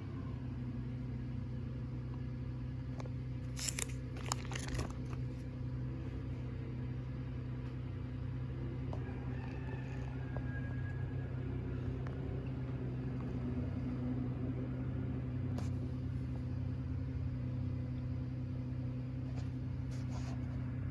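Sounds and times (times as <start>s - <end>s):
low room hum: 0.0s - 20.9s.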